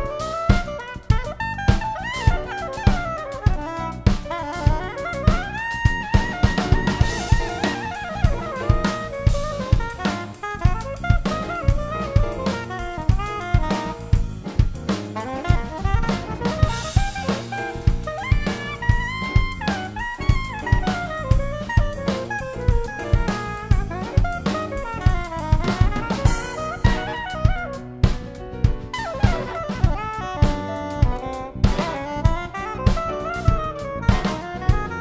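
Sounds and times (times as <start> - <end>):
acoustic drum kit: 0.0 - 35.0
big band backing track: 0.0 - 35.0.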